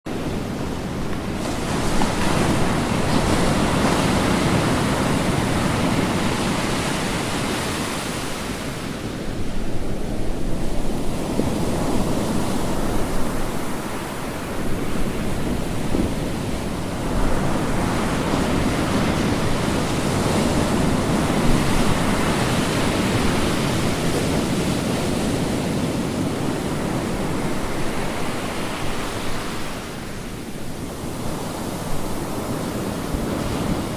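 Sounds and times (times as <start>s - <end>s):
ocean waves breaking: 0.1s - 33.9s.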